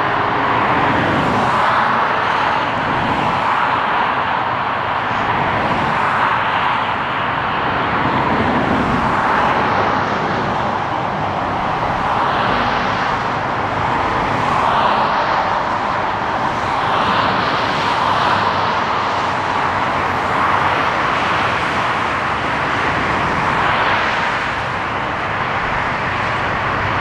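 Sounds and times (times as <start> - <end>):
motorway traffic passing: 0.0 - 27.0.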